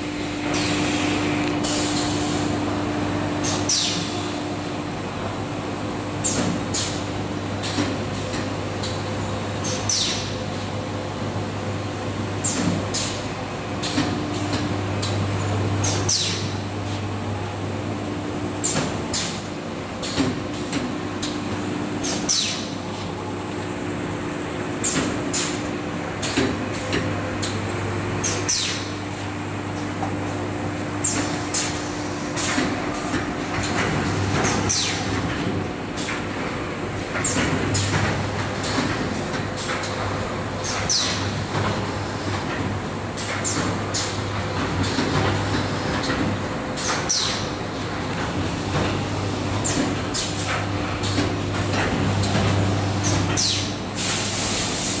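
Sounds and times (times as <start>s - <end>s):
machine hum and drone: 0.0s - 55.0s.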